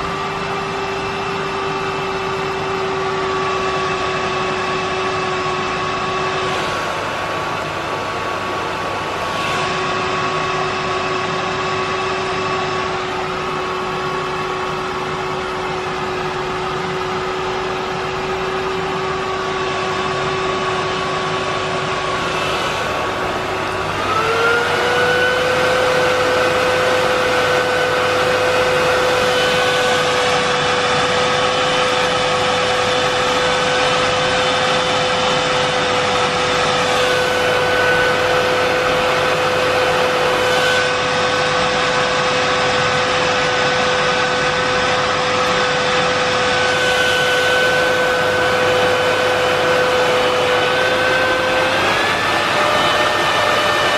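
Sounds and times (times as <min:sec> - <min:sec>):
vacuum cleaner motor whining: 0:00.0 - 0:53.9.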